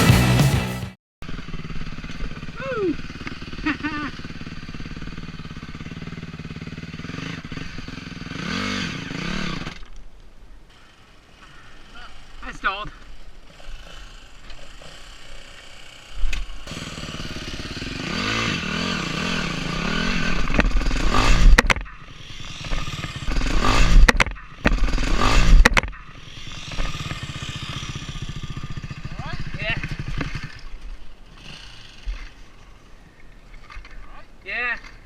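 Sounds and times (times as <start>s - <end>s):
dirt bike engine revving: 0.0s - 10.0s, 10.7s - 33.0s.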